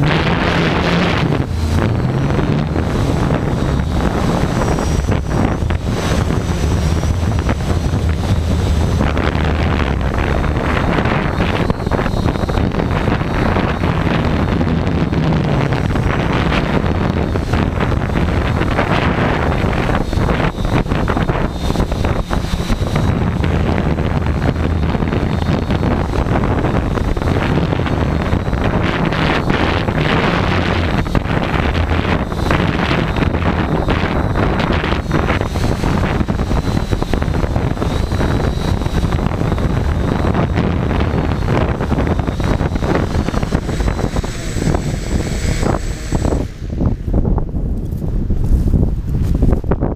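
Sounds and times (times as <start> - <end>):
drone motors whining: 0.0 - 48.7
wind buffeting microphone: 0.0 - 49.9.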